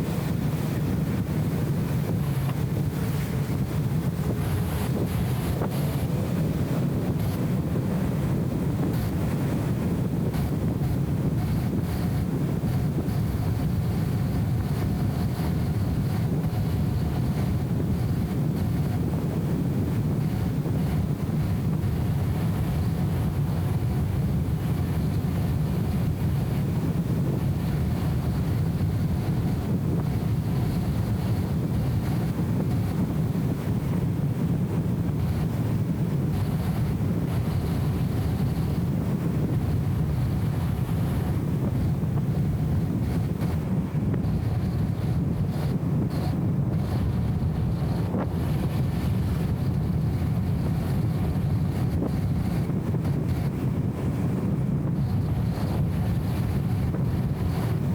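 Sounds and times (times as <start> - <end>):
muffled car engine rumble: 0.0 - 57.9.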